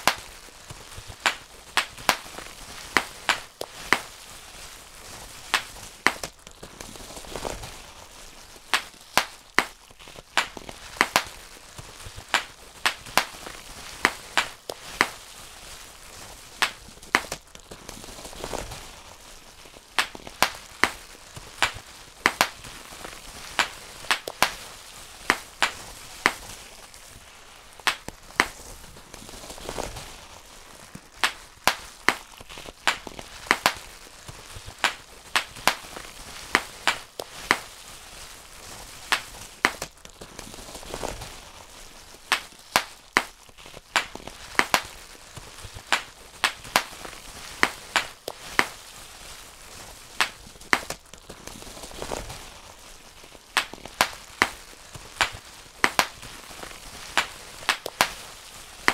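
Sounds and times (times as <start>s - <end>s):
bubble wrap popping: 0.0s - 58.9s
plastic sheet rustling: 0.0s - 58.9s.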